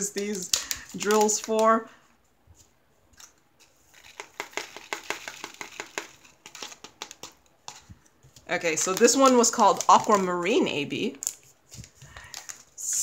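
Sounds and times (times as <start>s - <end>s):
plastic rustling: 0.0s - 13.0s.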